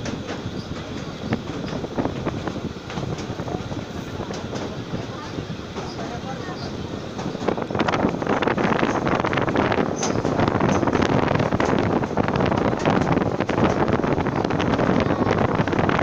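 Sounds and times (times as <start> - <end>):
train rumbling over bridge: 0.0 - 16.0
wind on microphone: 0.0 - 16.0.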